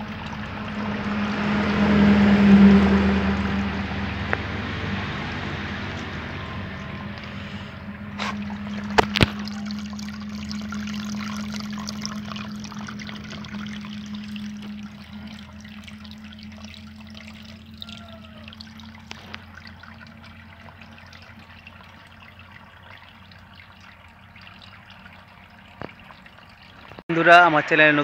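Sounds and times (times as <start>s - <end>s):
steady low hum: 0.0s - 26.7s
water trickling into puddle: 0.0s - 27.1s.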